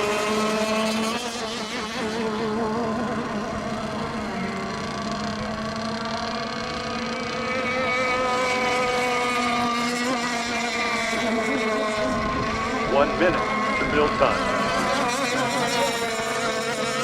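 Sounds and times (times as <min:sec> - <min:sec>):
model boat engine whining: 0:00.0 - 0:17.0.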